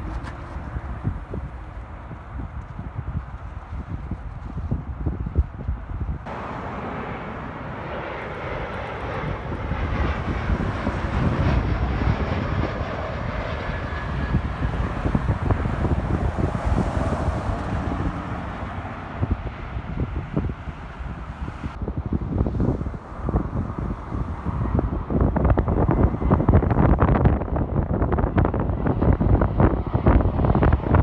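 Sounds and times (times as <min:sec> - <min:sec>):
airliner engine noise: 0:00.0 - 0:31.0
wind buffeting microphone: 0:00.0 - 0:31.0.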